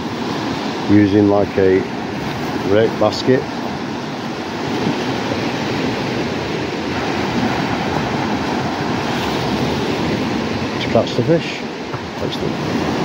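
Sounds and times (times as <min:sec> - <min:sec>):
small waves breaking on beach: 0:00.0 - 0:13.0.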